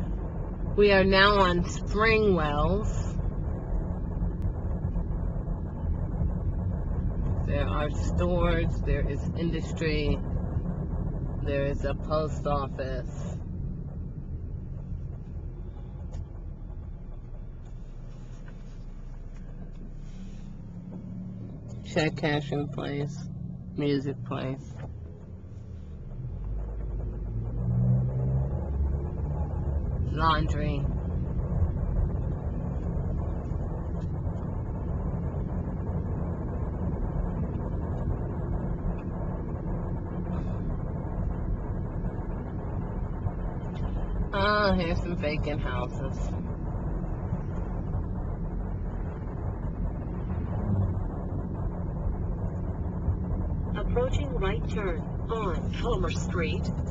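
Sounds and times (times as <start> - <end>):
car engine and tyres rumbling: 0.0 - 56.9.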